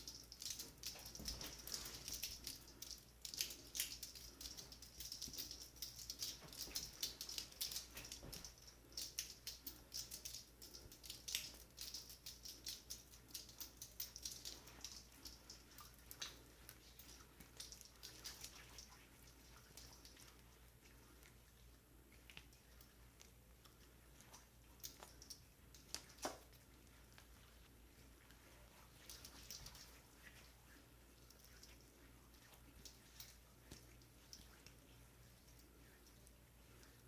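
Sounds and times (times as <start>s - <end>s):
crackling and clicking of handled objects: 0.0s - 37.0s.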